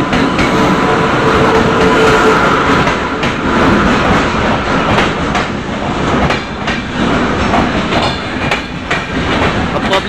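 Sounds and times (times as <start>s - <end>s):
passenger coaches rumbling: 0.0s - 10.0s
wheels clacking over rail joints: 1.5s - 10.0s.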